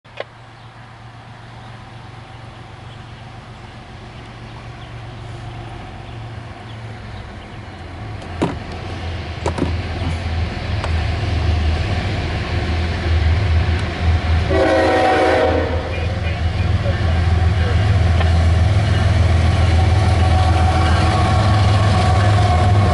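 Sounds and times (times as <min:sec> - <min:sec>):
diesel locomotives rumbling: 0:00.1 - 0:22.9.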